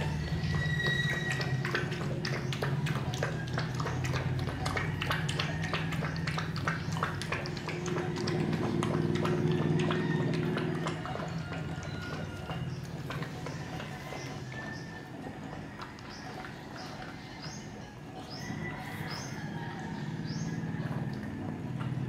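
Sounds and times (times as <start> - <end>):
puppies lapping milk: 0.0 - 22.0.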